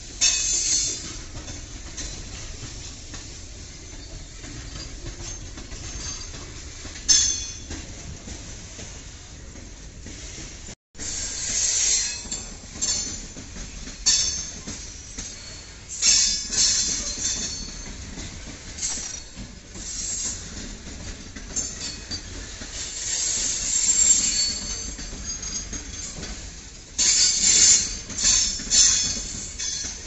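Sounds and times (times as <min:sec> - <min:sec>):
train rolling rumble: 0:00.0 - 0:30.0
wheels clickety-clack: 0:00.1 - 0:10.7, 0:11.5 - 0:30.0.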